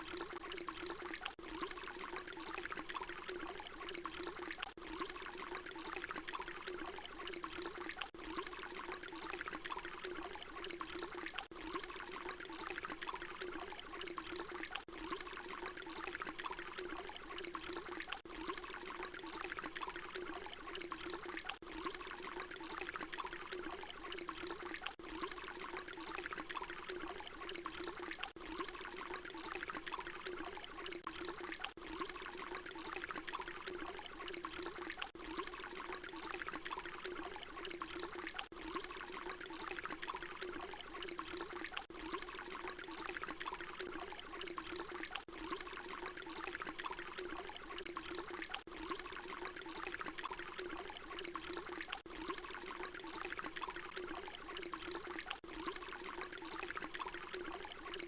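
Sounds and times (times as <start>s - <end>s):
water pouring into water: 0.0s - 58.0s.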